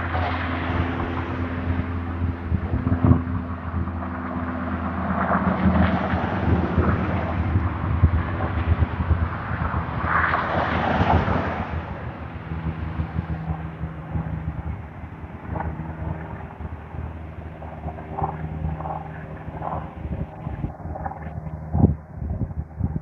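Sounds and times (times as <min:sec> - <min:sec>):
low engine-like hum: 0:00.0 - 0:23.0
wind buffeting microphone: 0:00.0 - 0:23.0.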